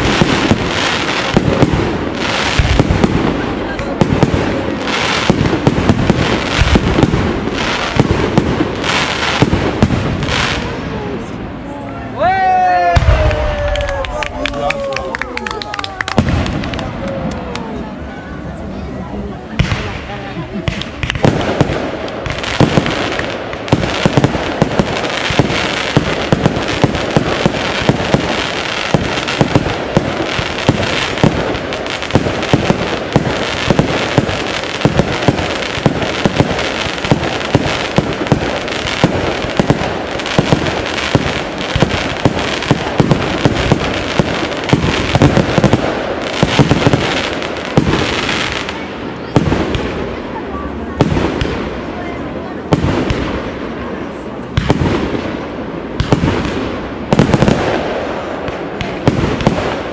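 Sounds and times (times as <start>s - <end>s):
fireworks bangs: 0.0s - 11.6s, 12.4s - 18.5s, 19.4s - 59.9s.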